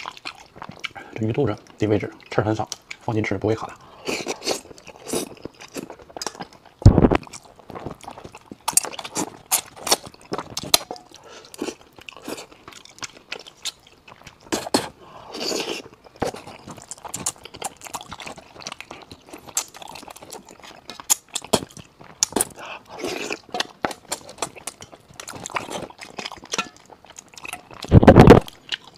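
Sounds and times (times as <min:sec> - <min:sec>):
man chewing wetly: 0:00.0 - 0:28.9.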